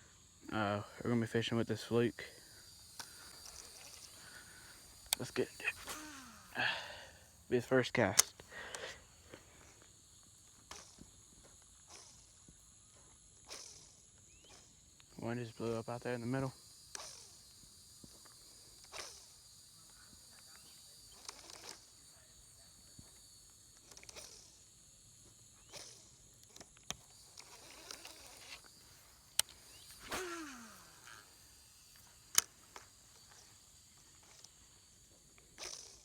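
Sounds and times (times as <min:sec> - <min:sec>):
faint insect chorus: 0:00.0 - 0:36.0
sharp clicks: 0:02.3 - 0:09.9, 0:13.4 - 0:24.7, 0:25.7 - 0:36.0.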